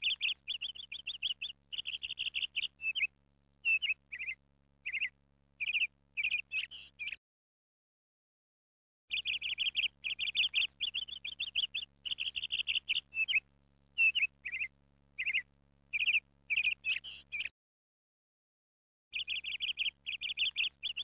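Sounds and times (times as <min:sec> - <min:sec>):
small bird trilling chirps: 0:00.0 - 0:07.2, 0:09.1 - 0:17.5, 0:19.2 - 0:21.0.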